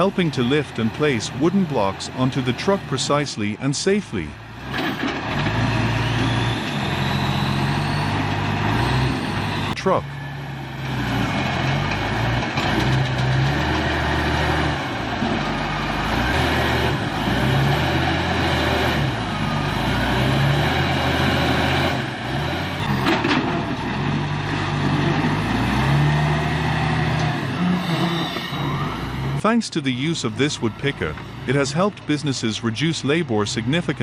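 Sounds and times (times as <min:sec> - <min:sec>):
diesel engine working: 0:00.0 - 0:34.0.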